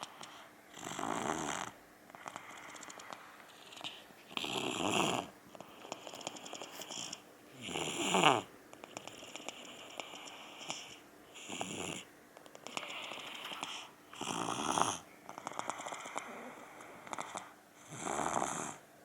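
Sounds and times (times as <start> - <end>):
toddler snoring: 0.0 - 18.9
quiet breathing: 0.0 - 19.0.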